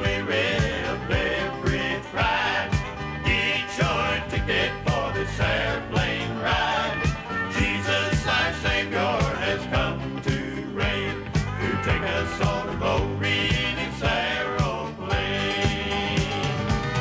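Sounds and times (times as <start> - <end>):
country gospel band playing: 0.0 - 17.0
person singing: 0.0 - 17.0.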